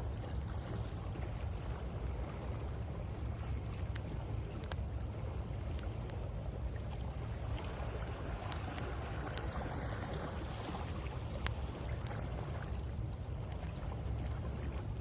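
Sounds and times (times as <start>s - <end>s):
sea waves washing onto shore: 0.0s - 15.0s
steady low rumble: 0.0s - 15.0s.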